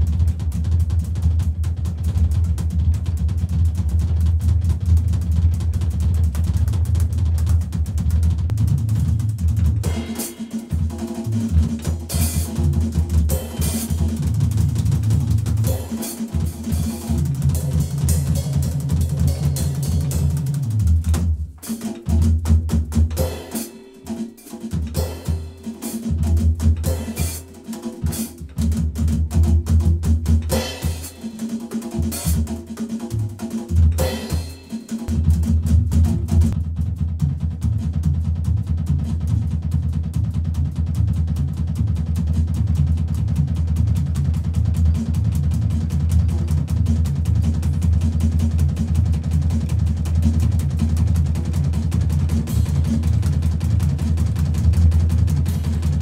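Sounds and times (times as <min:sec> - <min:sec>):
drum kit playing latin groove: 0:00.0 - 0:56.0.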